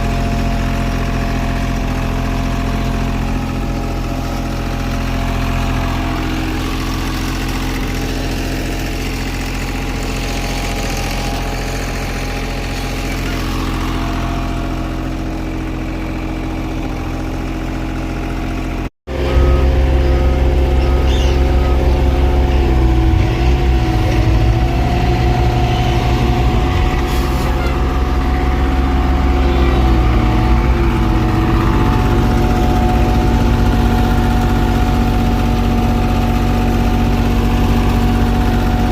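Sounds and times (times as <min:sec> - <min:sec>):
heavy machinery engines running: 0:00.0 - 0:38.9.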